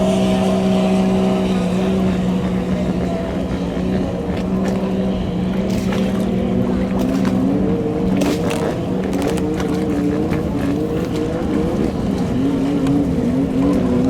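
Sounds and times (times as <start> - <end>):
racing boat engine: 0.0 - 14.0.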